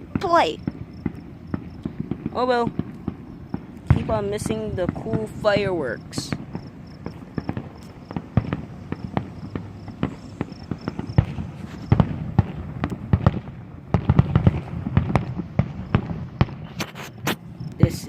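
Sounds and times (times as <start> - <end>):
distant fireworks bangs and crackles: 0.0 - 18.0.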